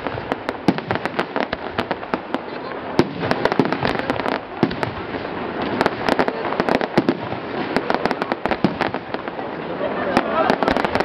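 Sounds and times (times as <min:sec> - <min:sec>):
fireworks bangs and pops: 0:00.0 - 0:11.0
fireworks crackling hiss: 0:00.0 - 0:11.0.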